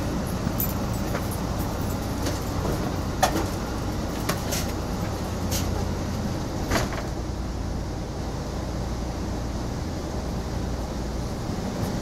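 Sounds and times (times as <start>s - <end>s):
passenger train rumbling: 0.0s - 12.0s.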